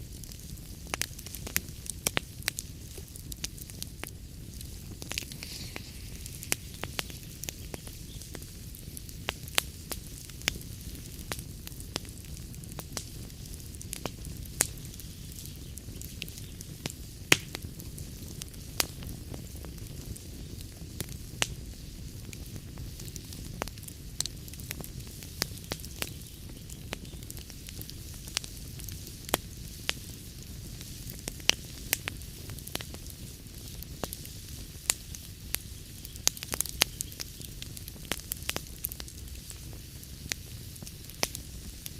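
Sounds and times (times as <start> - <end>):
fire rumble and hiss: 0.0 - 41.9
log fire crackling: 0.0 - 41.9.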